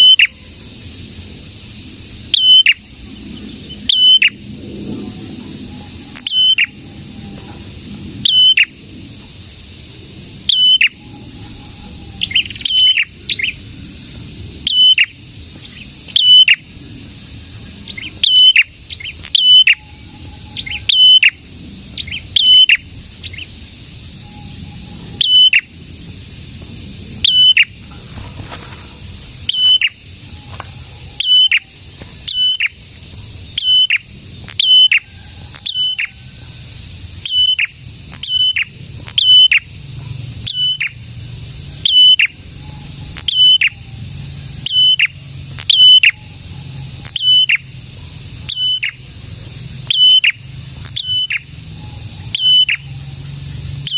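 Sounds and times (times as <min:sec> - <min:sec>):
songbird calling: 0:00.0 - 0:53.9.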